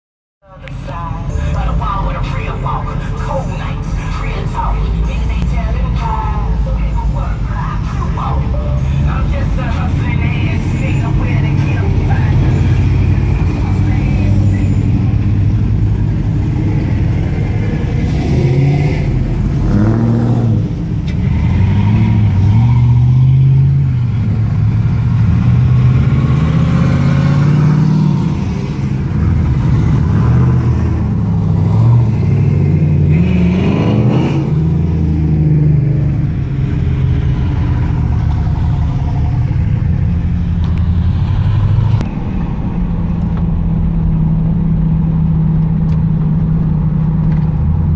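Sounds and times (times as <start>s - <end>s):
truck engines revving: 0.4s - 47.9s.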